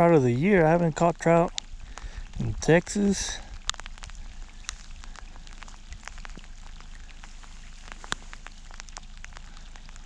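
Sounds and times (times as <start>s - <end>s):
drops ticking close by: 0.0s - 10.0s
faint low rumble: 0.0s - 10.0s
rain falling: 0.0s - 10.0s.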